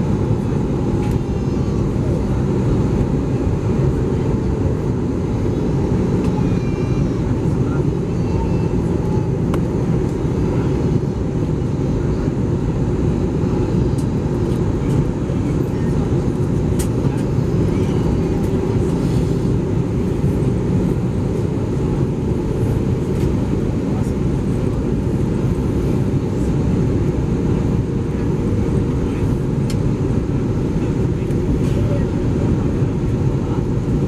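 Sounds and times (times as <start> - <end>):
airplane cabin airflow and engine rumble: 0.0 - 34.0.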